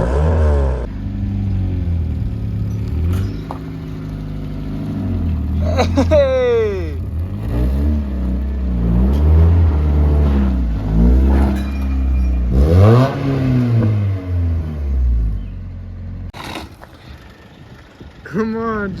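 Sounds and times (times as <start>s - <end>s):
car engine idling and revving: 0.0s - 18.5s.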